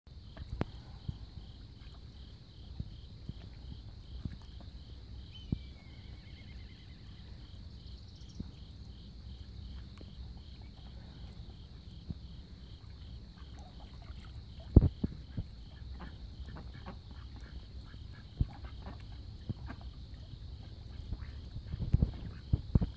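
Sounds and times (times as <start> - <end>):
low outdoor rumble: 0.1 - 22.9.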